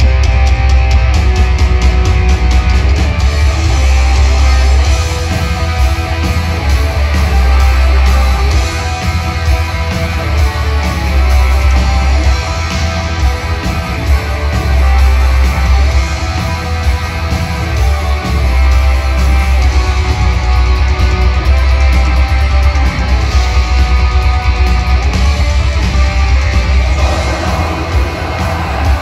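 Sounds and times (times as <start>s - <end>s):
metal band playing live: 0.0s - 29.0s.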